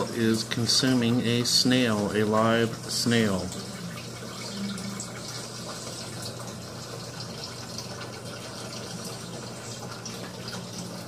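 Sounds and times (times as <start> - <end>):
aquarium pump hum: 0.0 - 11.0
water trickling and splashing: 0.0 - 11.0.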